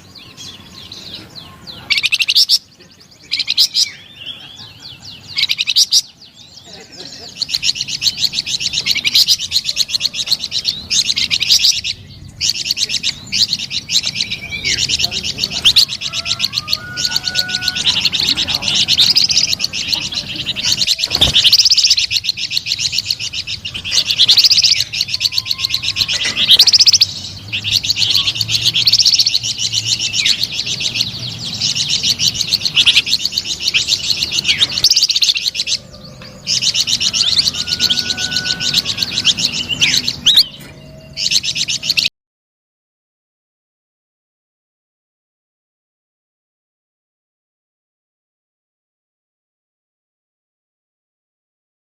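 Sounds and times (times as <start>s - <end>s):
songbird singing rapid chattering song: 0.0s - 42.1s.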